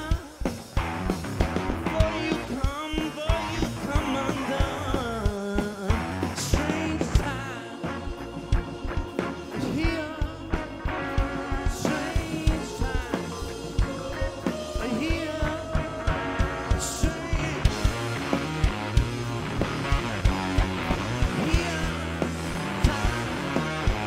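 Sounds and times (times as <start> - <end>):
rock band playing live: 0.0 - 24.0
drum hits: 0.8 - 24.0.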